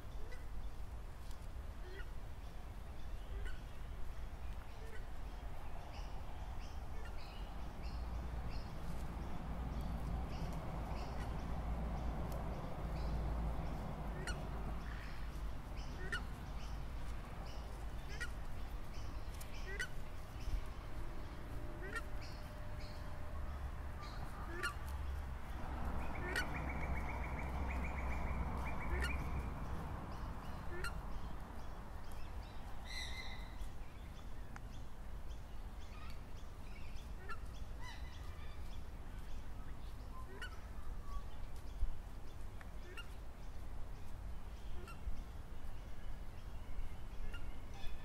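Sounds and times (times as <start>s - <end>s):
steady low rumble: 1.6s - 46.4s
birds giving gliding calls: 1.7s - 48.0s.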